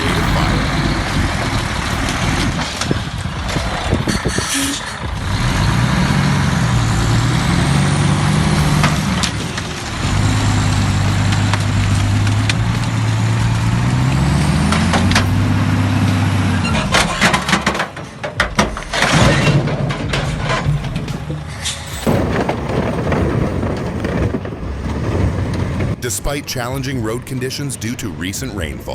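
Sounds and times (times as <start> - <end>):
knocks and rattles: 0.0 - 26.0
heavy engine working under load: 0.0 - 26.1.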